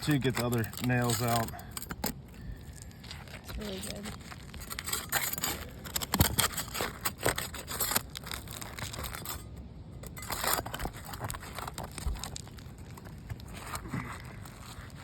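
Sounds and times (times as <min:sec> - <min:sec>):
crowbar scraping under shingle: 0:00.0 - 0:15.0
shingle crackling and tearing: 0:00.0 - 0:15.0.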